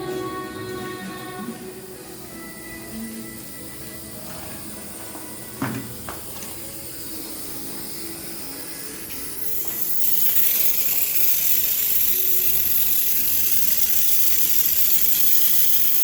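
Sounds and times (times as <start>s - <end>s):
compressor air hissing: 0.0s - 16.0s.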